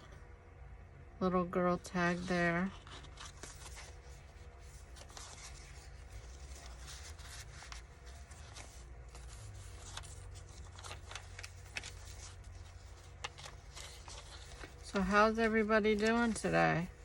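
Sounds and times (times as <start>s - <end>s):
faint low hum: 0.0s - 17.0s
paper pages rustling: 1.9s - 17.0s.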